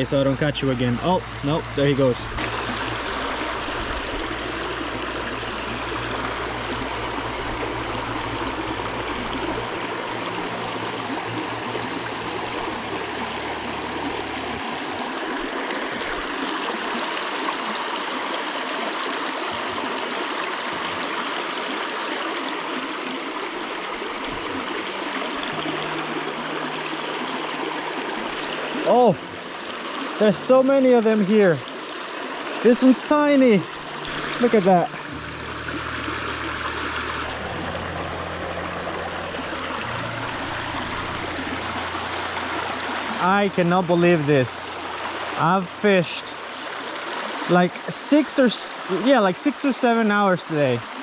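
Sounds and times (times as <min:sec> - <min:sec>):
creek water rushing over rocks: 0:00.0 - 0:51.0.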